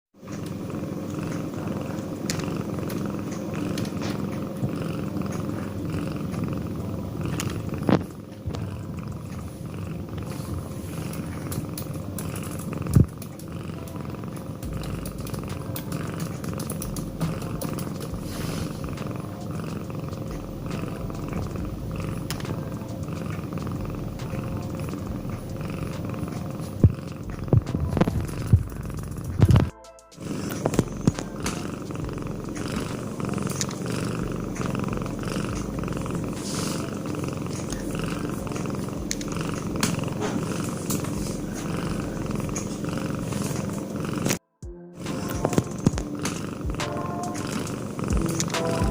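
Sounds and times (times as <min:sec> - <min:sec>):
cat snoring: 0:00.2 - 0:44.4, 0:45.0 - 0:48.9.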